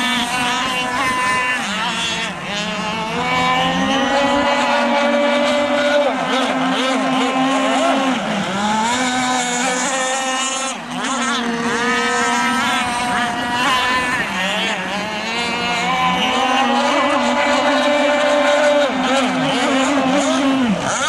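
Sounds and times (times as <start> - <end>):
model speedboat engines whining: 0.0 - 21.0.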